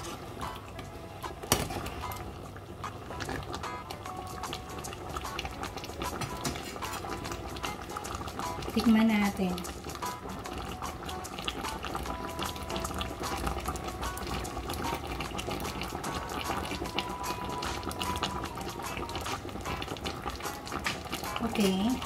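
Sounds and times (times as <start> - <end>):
stew bubbling in a pot: 0.0 - 22.0.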